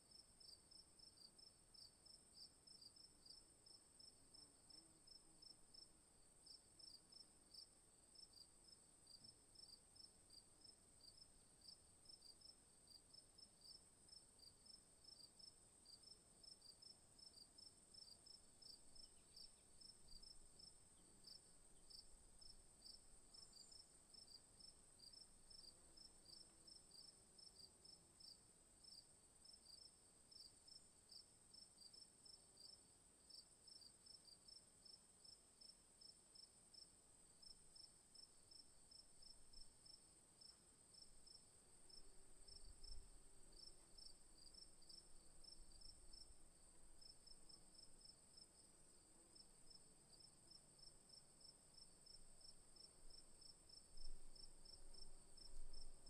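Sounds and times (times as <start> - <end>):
cricket chirps: 0.0 - 56.0.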